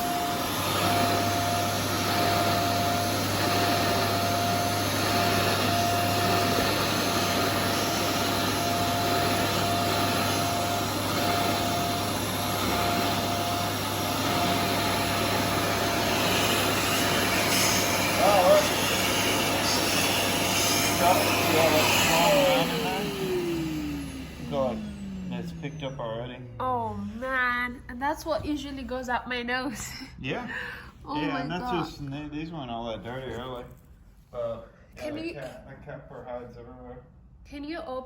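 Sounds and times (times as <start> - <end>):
vacuum cleaner running: 0.0 - 27.6, 30.2 - 33.3.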